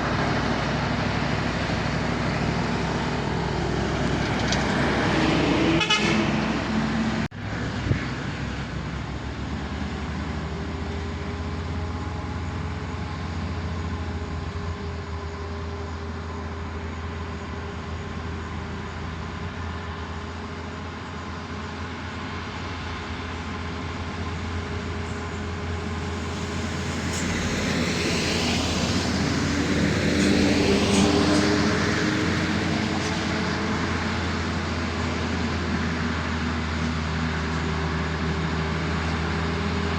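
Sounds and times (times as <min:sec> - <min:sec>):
diesel truck engines humming: 0:00.0 - 0:39.9.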